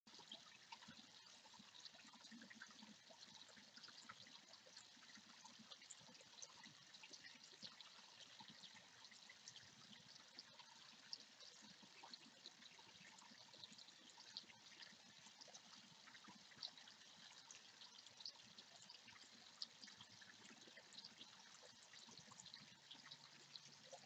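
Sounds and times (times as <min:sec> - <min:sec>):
pond water trickling: 0:00.1 - 0:24.0
small drips and splashes: 0:00.1 - 0:24.0.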